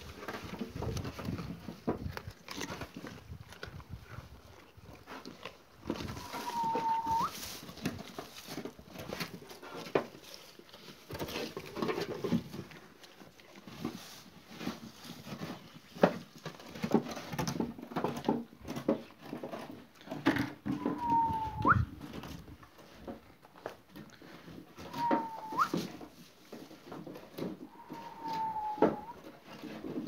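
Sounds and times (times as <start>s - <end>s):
sheep crunching feed: 0.0s - 30.0s.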